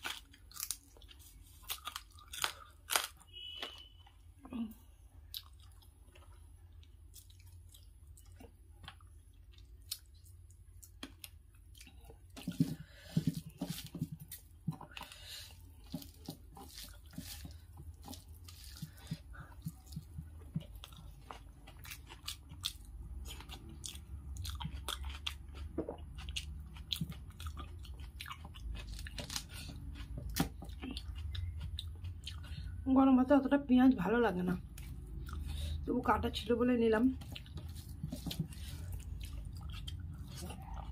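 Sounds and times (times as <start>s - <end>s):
onion crunching: 0.0s - 3.9s, 5.2s - 32.8s, 36.6s - 40.9s
close-up chewing: 0.0s - 4.2s, 5.2s - 32.9s, 34.4s - 36.0s, 37.0s - 40.9s.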